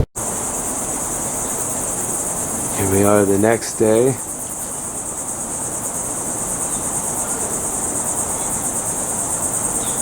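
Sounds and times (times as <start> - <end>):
insect chorus buzzing: 0.0 - 10.0.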